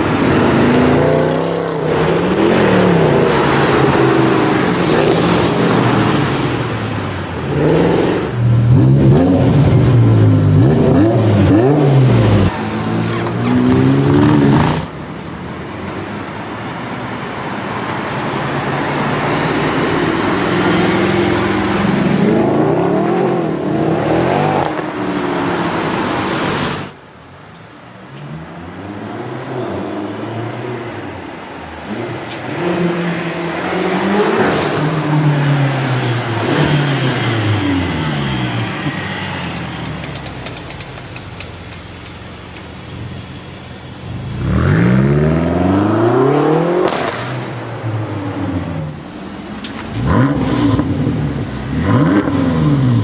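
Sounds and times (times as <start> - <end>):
car engines revving: 0.0 - 27.0, 28.0 - 53.0.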